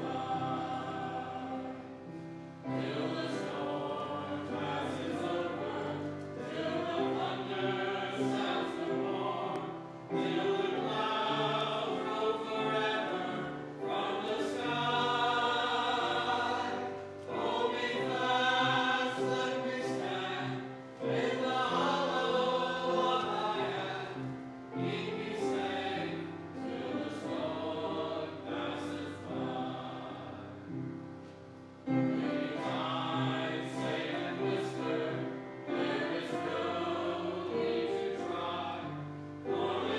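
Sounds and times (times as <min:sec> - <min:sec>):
choir singing a hymn: 0:00.0 - 0:39.9.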